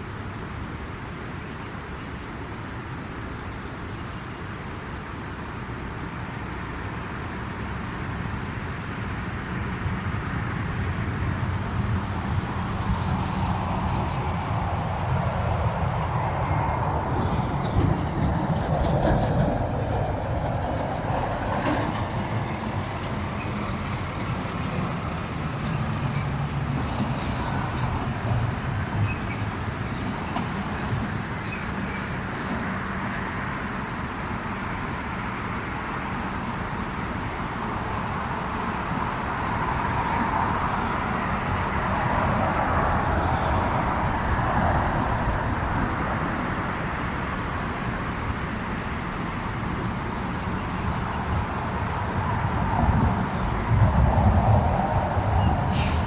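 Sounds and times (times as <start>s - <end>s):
campfire burning with rushing noise: 0.0s - 24.2s, 24.9s - 56.0s.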